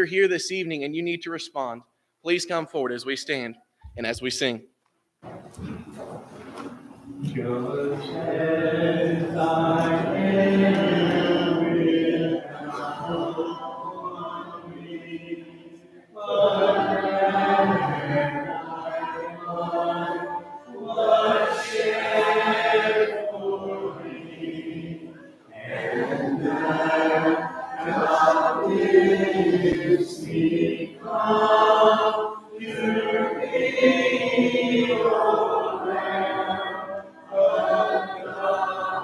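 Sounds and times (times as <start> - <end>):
congregation singing a hymn: 5.6 - 39.0.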